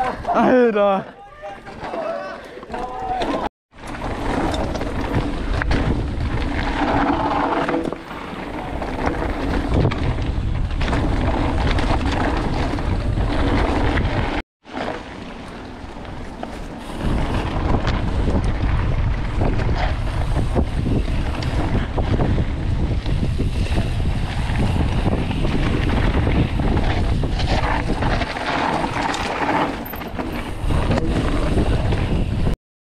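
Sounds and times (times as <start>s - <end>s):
bike rattling and clicking: 1.7s - 32.5s
wind rushing over microphone: 3.7s - 14.4s, 16.6s - 32.6s.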